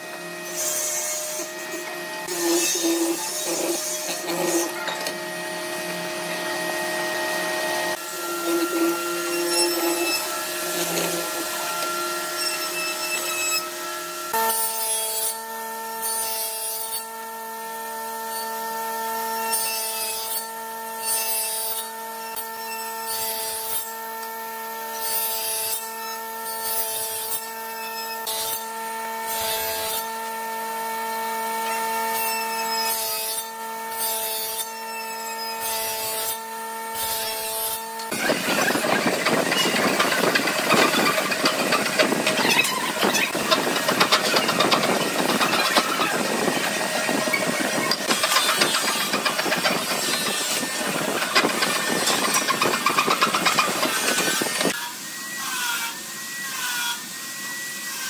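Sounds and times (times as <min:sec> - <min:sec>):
mortiser boring into wood: 0:00.0 - 0:58.0
table saw cutting wood: 0:00.0 - 0:58.0.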